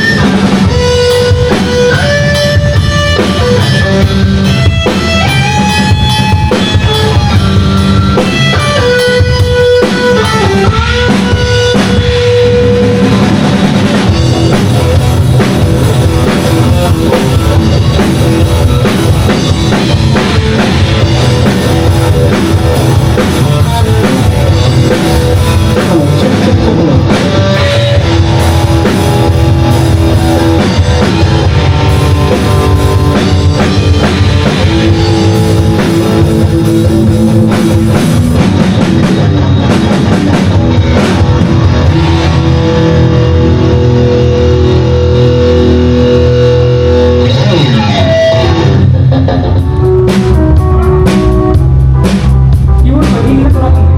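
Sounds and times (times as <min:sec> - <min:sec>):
bending lead guitar melody: 0:00.0 - 0:53.9
rock music with drums and guitars: 0:00.0 - 0:53.9.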